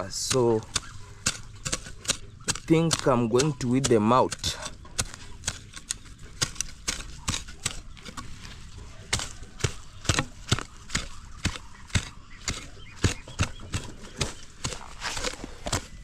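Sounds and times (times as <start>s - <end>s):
tool chopping into soil: 0.0s - 16.0s.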